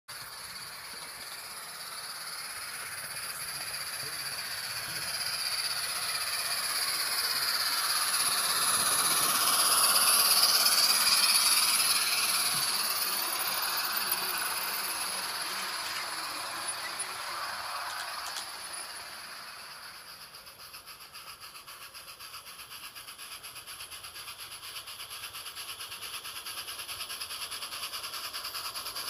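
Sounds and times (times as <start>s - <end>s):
steam locomotive hissing steam: 0.1s - 29.0s.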